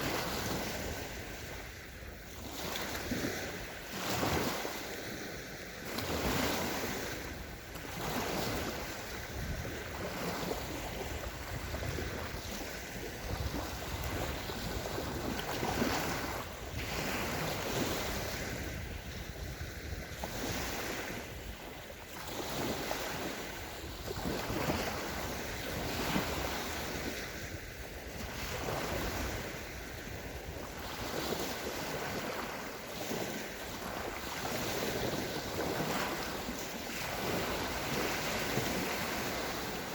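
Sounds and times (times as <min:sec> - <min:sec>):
small waves breaking on sand: 0:00.0 - 0:39.9
wind on microphone: 0:00.0 - 0:39.9.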